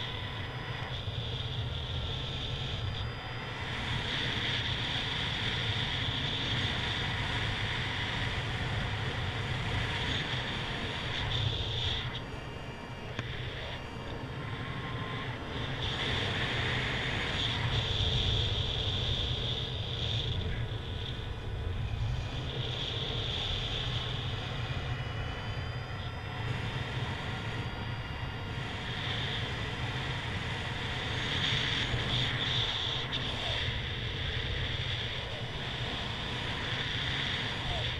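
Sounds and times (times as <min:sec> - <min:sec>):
wind rumble over microphone: 0:00.0 - 0:37.9.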